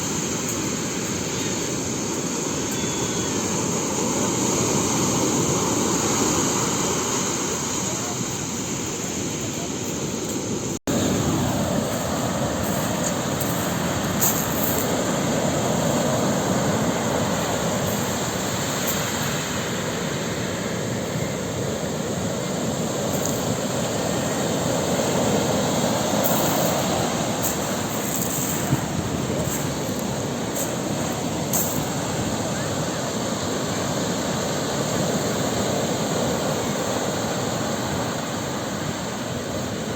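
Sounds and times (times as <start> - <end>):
sea waves surging on shore: 0.0 - 39.9.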